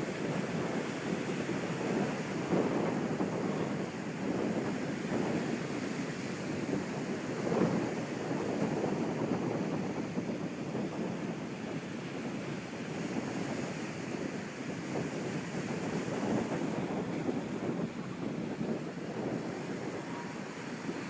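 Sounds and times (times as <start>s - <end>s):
ocean waves washing in: 0.0s - 21.0s.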